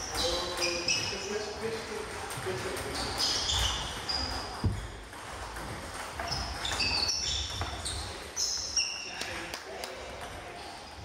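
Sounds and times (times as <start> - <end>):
shoes squeaking on floor: 0.0 - 9.5.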